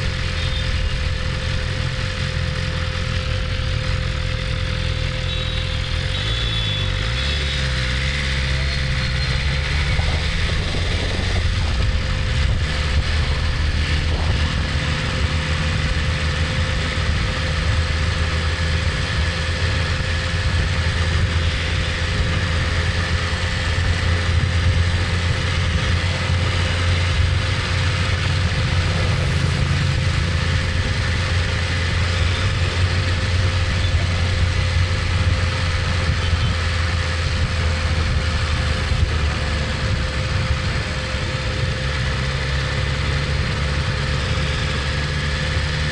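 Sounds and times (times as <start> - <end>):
motorcycle engine idling: 0.0 - 45.9.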